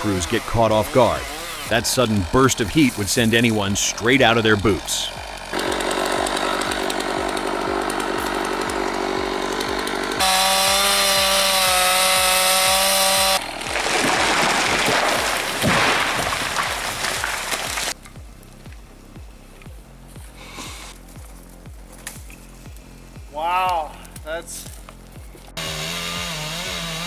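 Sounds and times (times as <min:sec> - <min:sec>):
chainsaw engine running at high revs: 0:00.0 - 0:18.0, 0:20.1 - 0:23.3, 0:25.6 - 0:27.0.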